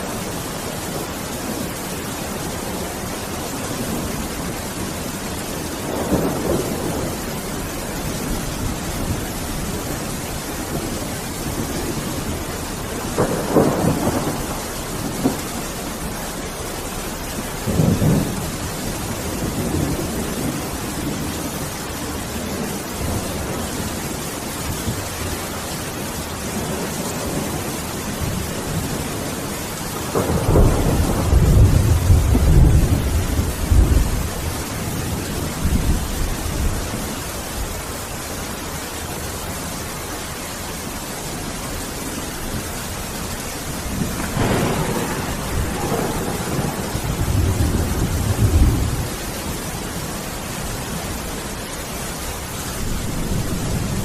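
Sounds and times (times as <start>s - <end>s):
thunder rumbling: 0.0s - 39.7s, 41.4s - 54.0s
heavy rain: 0.0s - 54.0s.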